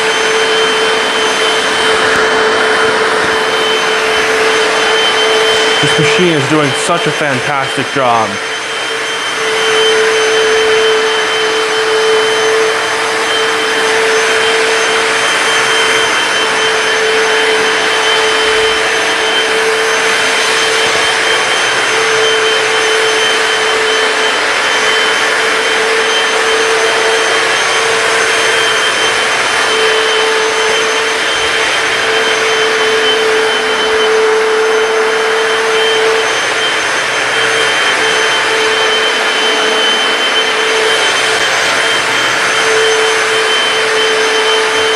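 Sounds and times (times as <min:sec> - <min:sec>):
floor cleaner motor whine: 0:00.0 - 0:44.9.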